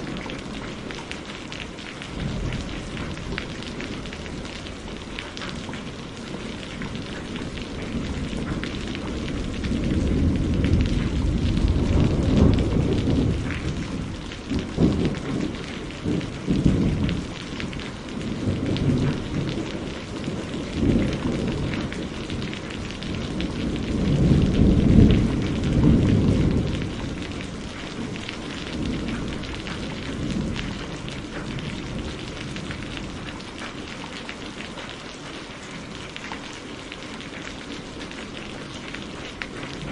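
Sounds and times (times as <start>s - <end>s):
thunder rumbling: 0.0s - 34.2s, 38.0s - 39.9s
rain falling: 0.0s - 39.9s.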